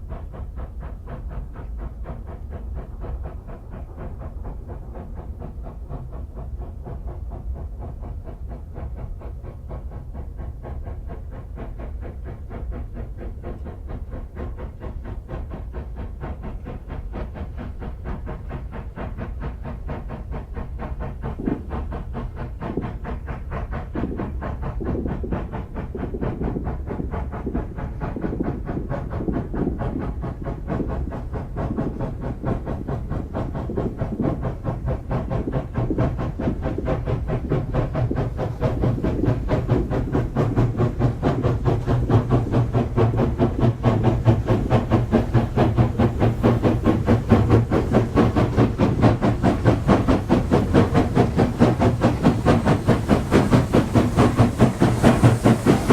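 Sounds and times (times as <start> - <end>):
low rumble of train: 0.0 - 55.9
steam locomotive chuffing: 0.0 - 55.9.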